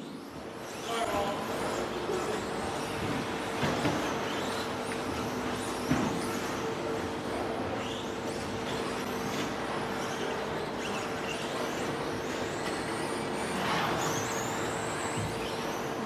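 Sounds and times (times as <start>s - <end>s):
rc truck motor whines: 0.1s - 16.0s.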